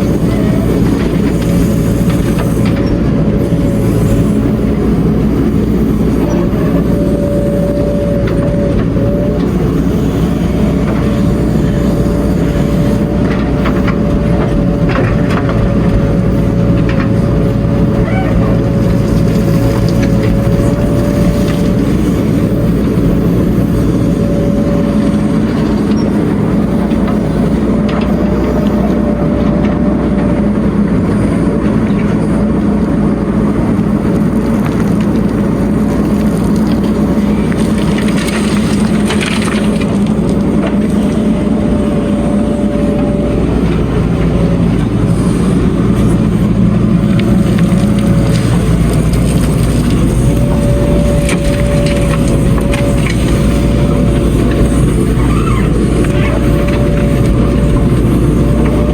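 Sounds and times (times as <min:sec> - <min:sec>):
heavy machinery engine rumbling: 0:00.0 - 0:58.9
steady machine whine: 0:00.0 - 0:58.9.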